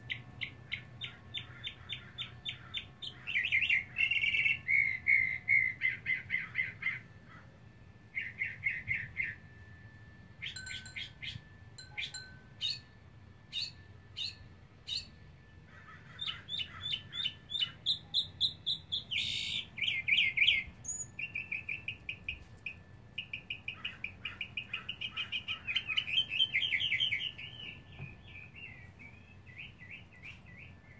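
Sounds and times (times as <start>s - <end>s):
mockingbird singing: 0.0s - 9.5s, 10.4s - 30.9s.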